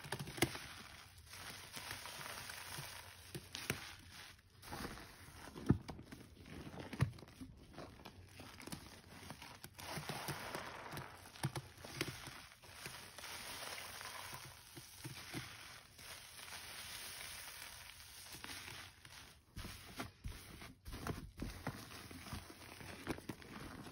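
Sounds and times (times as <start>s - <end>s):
soapy sponge squeezed: 0.0s - 23.9s.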